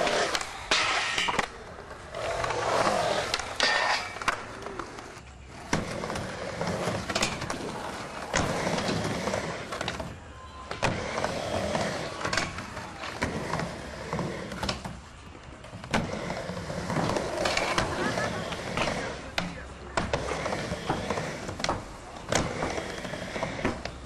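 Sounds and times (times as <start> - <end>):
skateboard clacks: 0.0 - 24.0
skateboard wheels rolling on concrete: 0.0 - 24.0.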